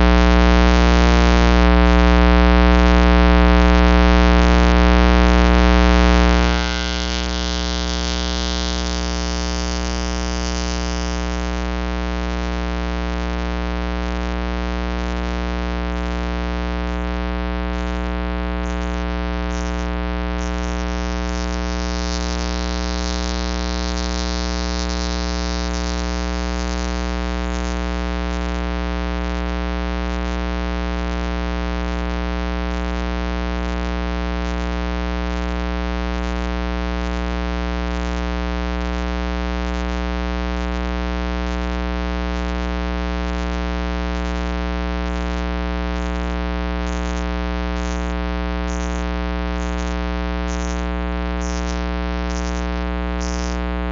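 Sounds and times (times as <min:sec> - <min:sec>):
loud electronic hum: 0:00.0 - 0:53.9.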